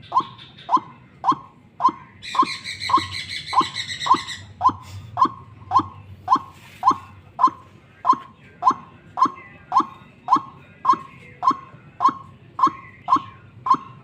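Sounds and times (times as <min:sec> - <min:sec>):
bird calling harsh note: 0:00.0 - 0:14.0
high bird twittering: 0:00.0 - 0:14.0.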